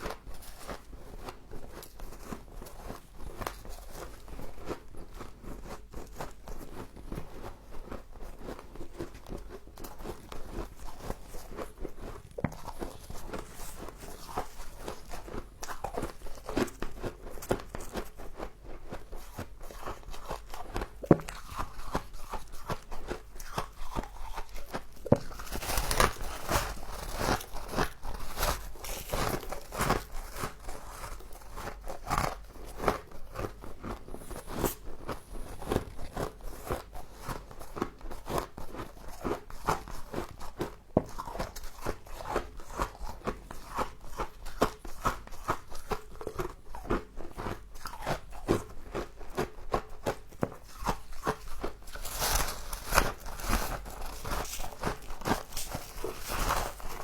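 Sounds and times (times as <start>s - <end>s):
crunching and chewing frost: 0.0s - 57.0s.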